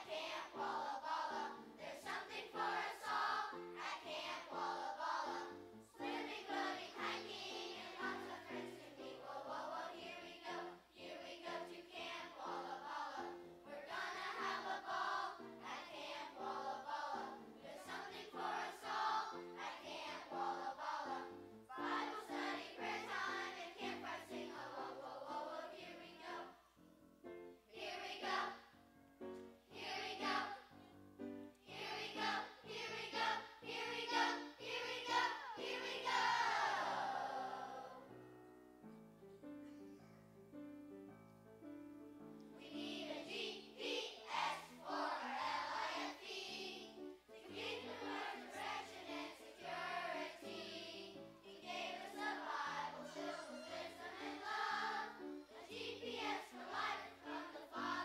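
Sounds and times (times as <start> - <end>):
children's choir singing: 0.0 - 26.8, 27.7 - 28.8, 29.4 - 38.1, 42.4 - 58.0.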